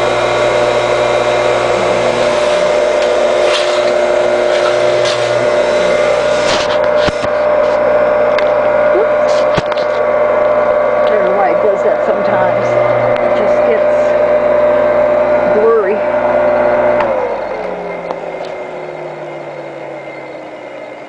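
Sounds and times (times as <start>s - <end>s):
electric motor humming: 0.0s - 21.0s.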